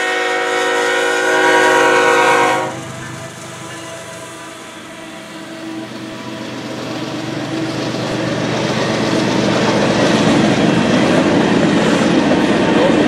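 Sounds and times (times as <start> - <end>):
freight train cars rolling past: 0.0 - 13.0.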